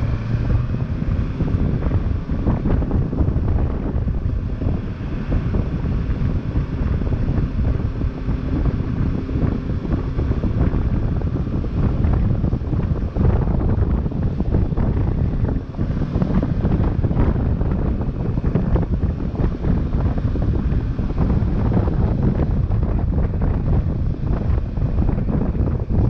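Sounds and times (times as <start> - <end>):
motorcycle riding: 0.0 - 26.0
wind buffeting microphone: 0.0 - 26.0.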